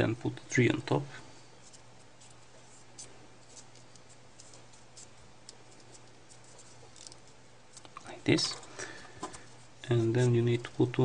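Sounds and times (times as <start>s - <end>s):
steady low hum: 0.0s - 11.0s
folded paper rustling and ticking: 1.7s - 10.9s.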